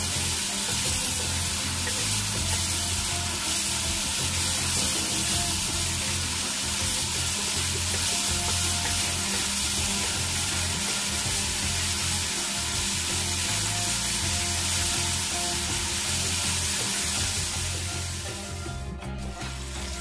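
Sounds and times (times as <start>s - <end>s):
music: 0.0s - 20.0s
vegetables sizzling in hot oil: 0.0s - 20.0s.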